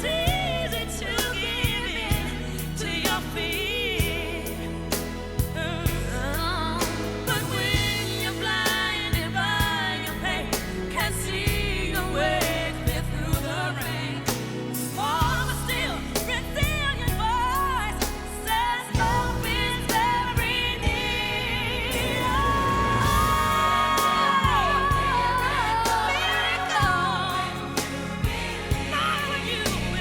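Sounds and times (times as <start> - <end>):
pop band accompaniment: 0.0 - 30.0.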